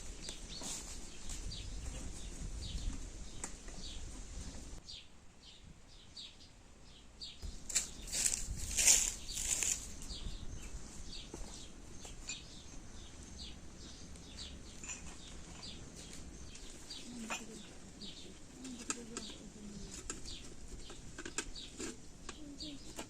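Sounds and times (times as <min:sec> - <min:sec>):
small songbird chirping: 0:00.0 - 0:23.0.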